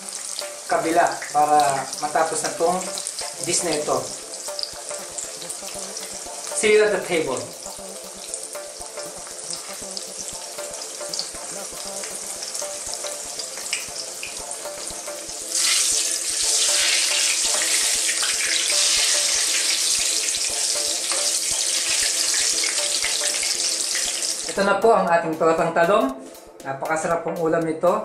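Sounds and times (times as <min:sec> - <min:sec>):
food sizzling in hot oil: 0:00.0 - 0:24.6.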